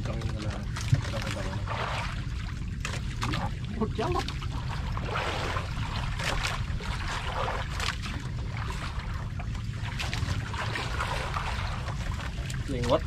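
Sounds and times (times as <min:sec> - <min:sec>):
steady low rumble: 0:00.0 - 0:13.0
water splashing against boat: 0:00.0 - 0:13.0.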